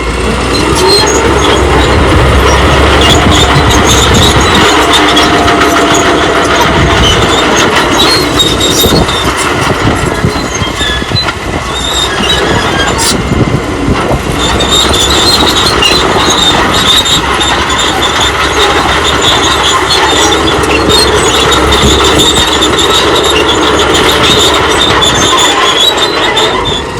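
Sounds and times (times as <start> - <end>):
bulldozer engine running: 0.0 - 26.9
steel tracks clattering and squealing: 0.0 - 26.9.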